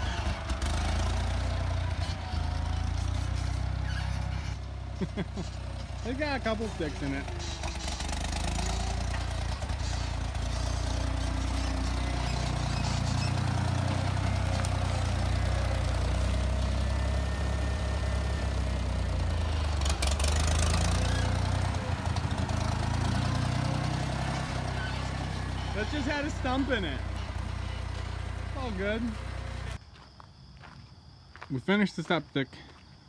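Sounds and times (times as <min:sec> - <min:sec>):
tractor engine running: 0:00.0 - 0:29.8.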